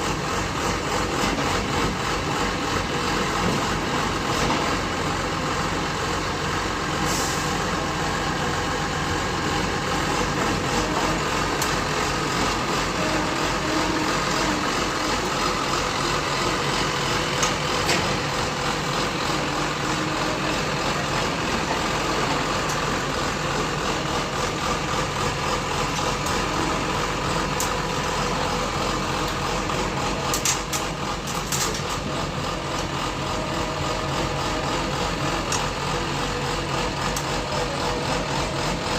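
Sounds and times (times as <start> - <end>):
drilling rig engine running: 0.0 - 38.9.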